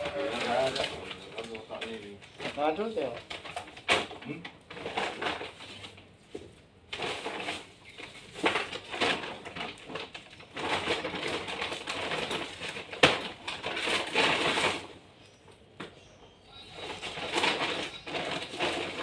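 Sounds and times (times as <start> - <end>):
plastic crinkling and rustling: 0.0 - 19.0.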